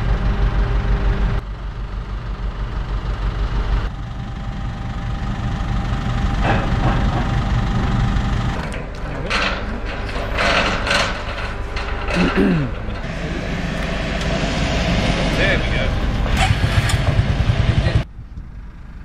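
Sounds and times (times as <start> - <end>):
heavy machinery engine rumbling: 0.0 - 19.0.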